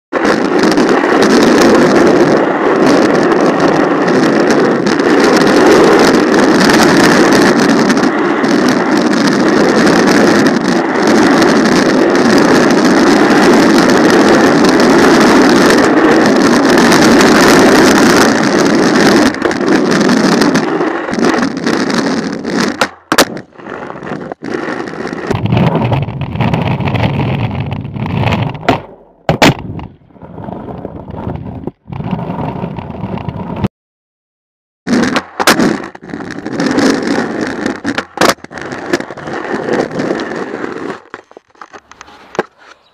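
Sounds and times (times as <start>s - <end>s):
skateboard wheels rolling on asphalt: 0.1s - 33.7s, 34.9s - 42.9s.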